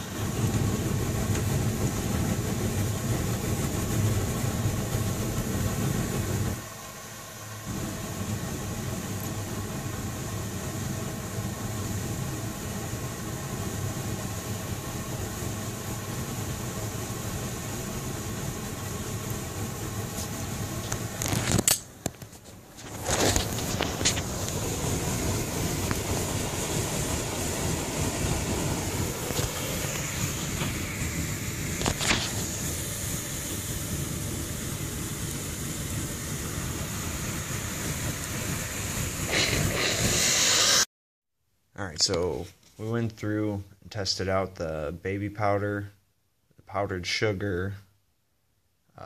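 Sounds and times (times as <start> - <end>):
fireball rushing roar: 0.0 - 21.6, 22.6 - 40.9.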